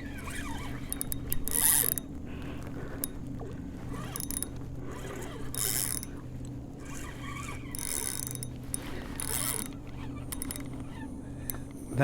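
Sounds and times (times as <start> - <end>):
fishing reel clicking and whirring: 0.0 - 12.0.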